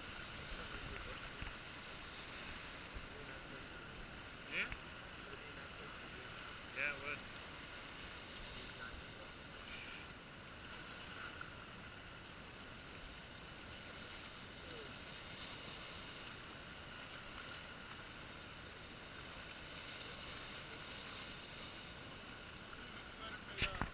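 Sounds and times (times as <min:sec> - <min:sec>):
waves washing among rocks: 0:00.0 - 0:23.9.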